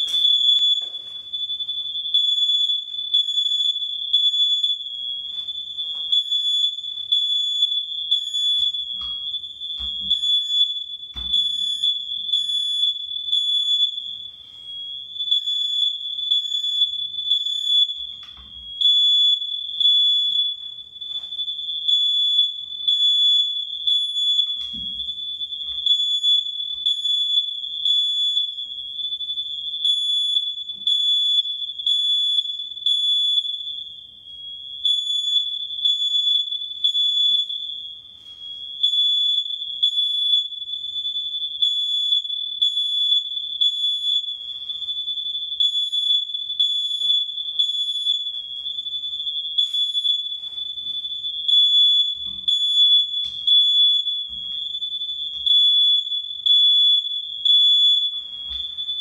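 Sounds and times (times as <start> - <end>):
smoke alarm high-pitched tone: 0.0 - 59.0.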